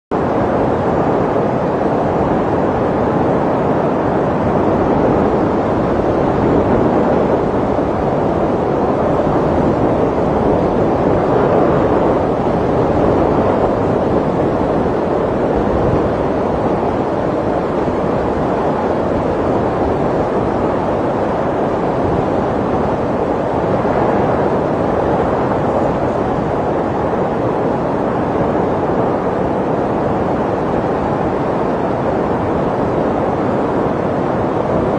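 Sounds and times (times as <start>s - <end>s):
snowstorm wind blowing: 0.1s - 34.9s.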